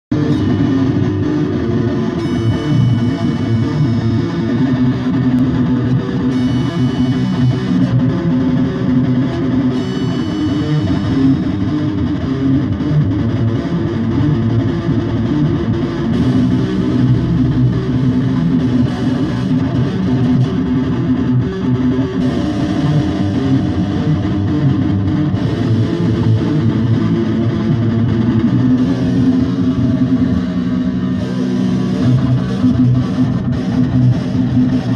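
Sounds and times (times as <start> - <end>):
bass guitar: 0.0 - 34.9
distorted electric guitar: 0.0 - 34.9.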